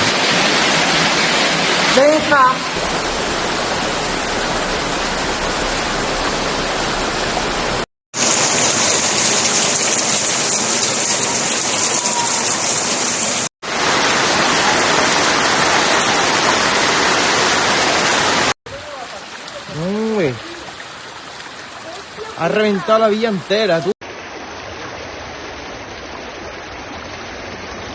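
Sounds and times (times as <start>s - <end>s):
loud rushing floodwater: 0.0s - 27.9s.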